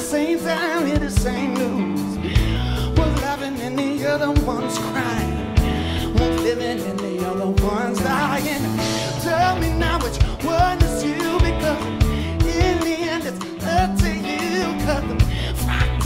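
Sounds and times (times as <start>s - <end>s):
drum kit and cymbals: 0.0s - 16.0s
electric bass: 0.0s - 16.0s
electric guitars: 0.0s - 16.0s
man singing: 0.0s - 16.0s.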